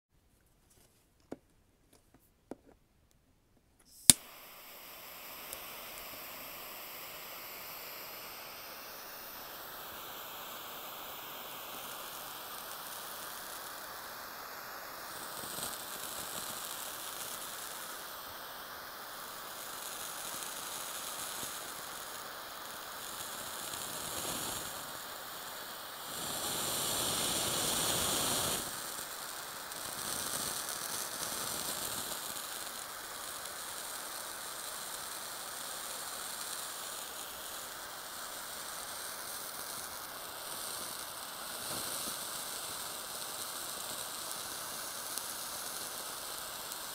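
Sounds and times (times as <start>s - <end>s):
blowtorch hissing: 3.8s - 46.9s.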